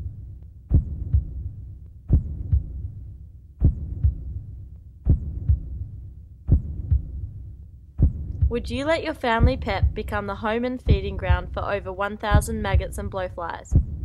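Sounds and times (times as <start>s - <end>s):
heartbeat thumps: 0.0s - 14.0s
low hum: 0.0s - 14.0s.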